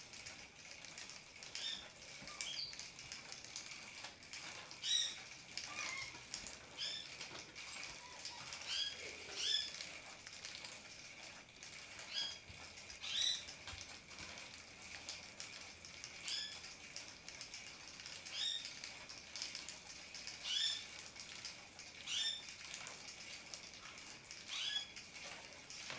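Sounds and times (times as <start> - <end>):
toy motor whirring: 0.0 - 25.9.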